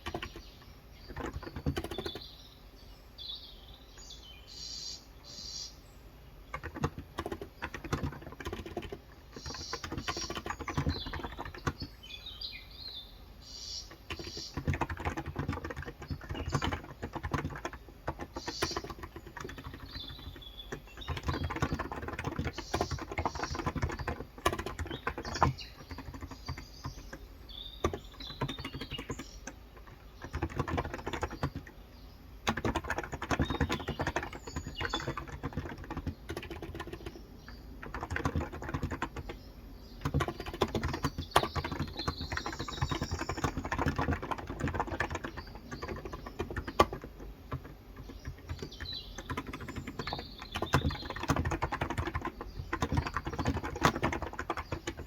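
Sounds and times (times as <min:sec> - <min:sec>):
keyboard typing: 0:00.0 - 0:02.3, 0:06.4 - 0:12.1, 0:13.7 - 0:31.8, 0:32.4 - 0:55.0
birds chirping: 0:00.0 - 0:55.0.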